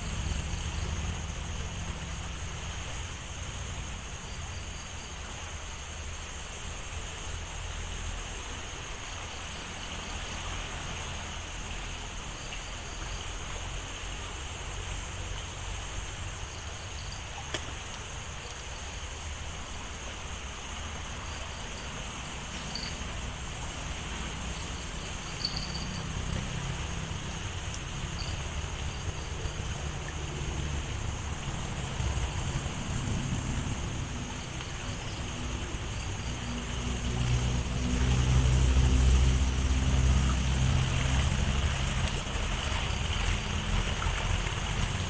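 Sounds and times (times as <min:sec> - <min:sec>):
insects buzzing: 0:00.0 - 0:45.0
river water rushing: 0:00.0 - 0:45.0.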